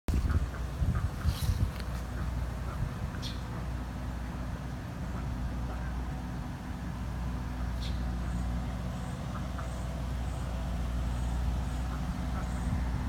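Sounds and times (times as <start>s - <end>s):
low engine rumble: 0.1s - 13.0s.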